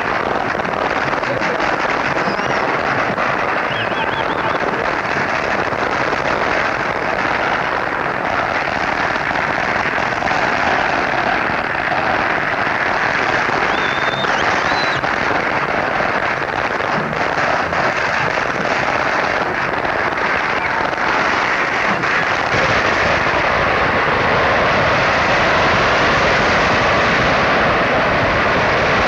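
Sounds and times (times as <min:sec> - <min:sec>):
firework whistle: 0:00.0 - 0:07.7, 0:08.3 - 0:29.0
firecrackers crackling: 0:00.0 - 0:29.0.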